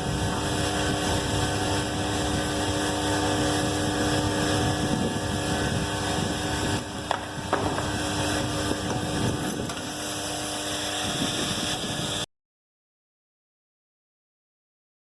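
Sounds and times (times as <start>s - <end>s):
welding machine humming: 0.0s - 12.3s.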